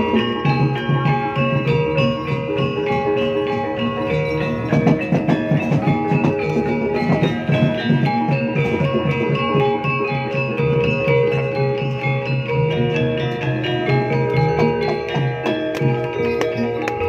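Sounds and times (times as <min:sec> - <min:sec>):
drum strokes: 0:00.0 - 0:17.0
metal mallet instruments ringing: 0:00.0 - 0:17.0.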